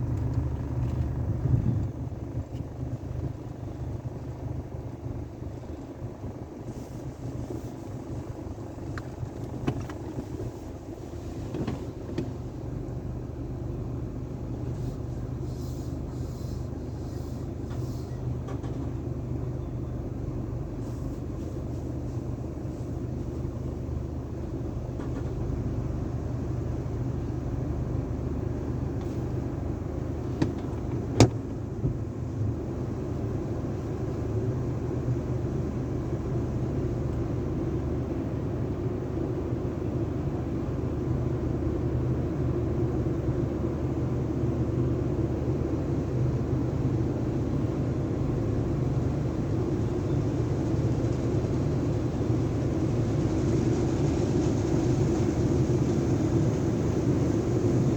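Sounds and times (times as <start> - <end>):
car wash machinery hum: 0.0 - 57.9
rushing wash water: 0.0 - 57.9.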